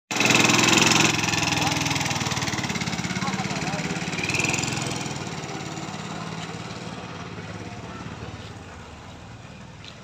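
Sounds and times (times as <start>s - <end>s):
go-kart engine running: 0.1s - 9.8s.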